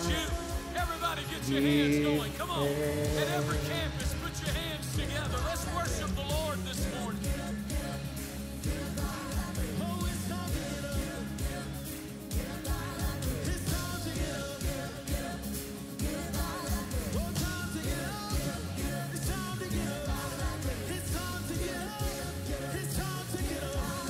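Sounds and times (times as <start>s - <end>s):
singing over a band: 0.0s - 24.0s
steady drum beat: 0.0s - 24.0s.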